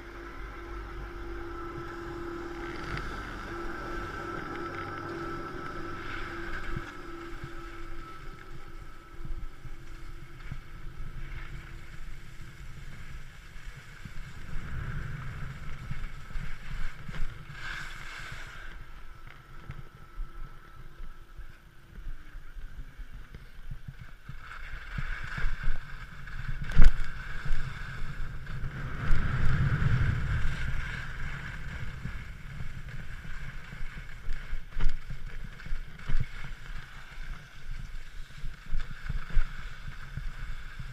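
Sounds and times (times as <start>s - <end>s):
skis scraping over snow: 0.0s - 20.0s, 21.9s - 40.9s
wind buffeting microphone: 0.0s - 40.9s.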